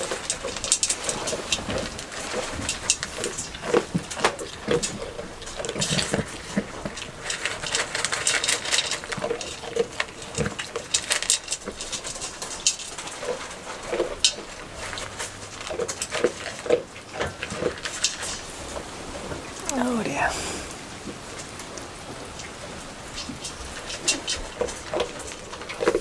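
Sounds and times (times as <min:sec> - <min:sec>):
rain pattering and dripping: 0:00.0 - 0:26.0.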